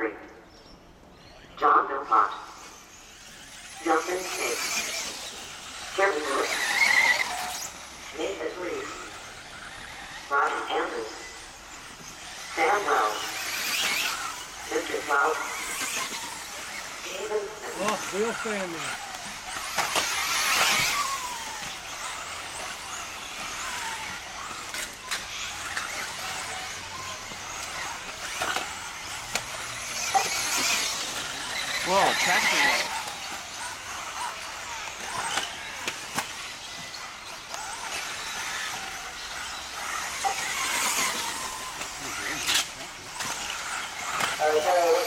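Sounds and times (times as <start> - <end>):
electric motors whining: 2.6 - 45.0.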